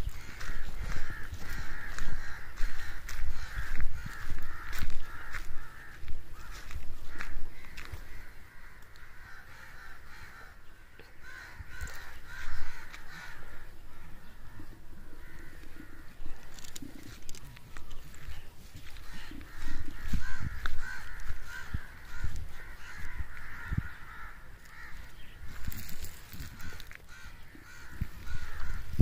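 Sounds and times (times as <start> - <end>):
crows cawing: 0.0 - 29.0
footsteps on dirt path: 0.0 - 29.0.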